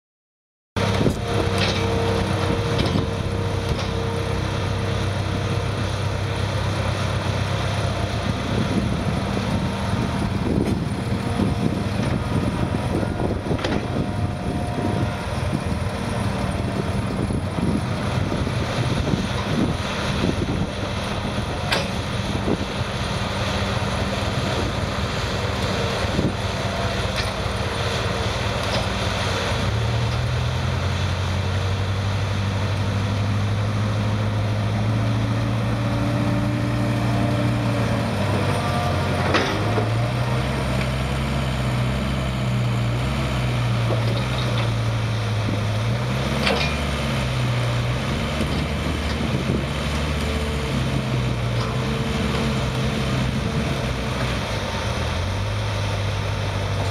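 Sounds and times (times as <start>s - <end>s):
excavator diesel engine running: 0.8s - 56.9s.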